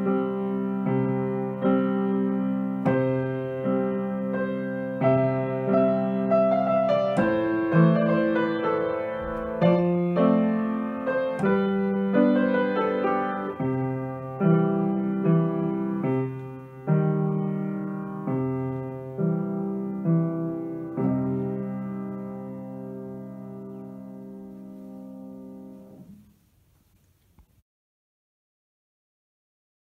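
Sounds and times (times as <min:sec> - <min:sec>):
grand piano chords: 0:00.0 - 0:26.5.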